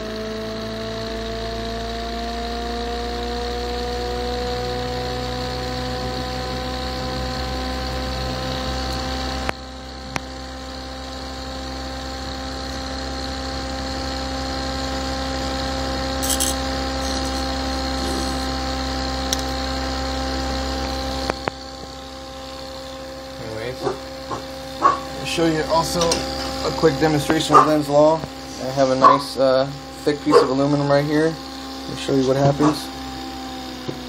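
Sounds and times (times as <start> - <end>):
electric motor hum and whine: 0.0 - 34.0.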